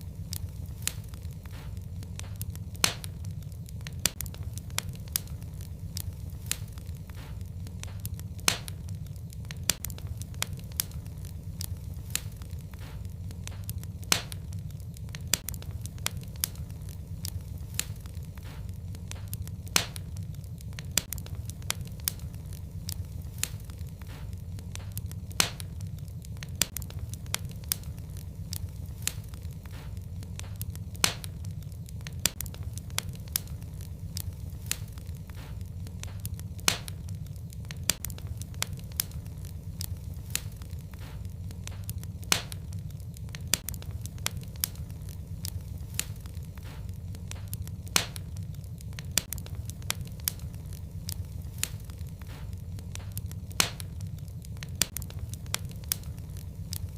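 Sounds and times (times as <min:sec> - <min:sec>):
low roar of flames: 0:00.0 - 0:56.9
wood fire crackling and popping: 0:00.0 - 0:56.9.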